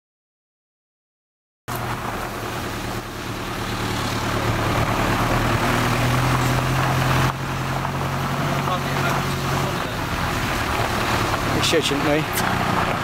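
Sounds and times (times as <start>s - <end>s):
road and tyre noise: 1.7s - 13.0s
van engine running: 1.7s - 13.0s.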